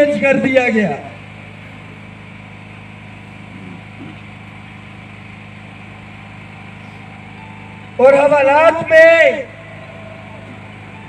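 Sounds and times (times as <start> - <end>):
low hum with tones: 0.0 - 11.0.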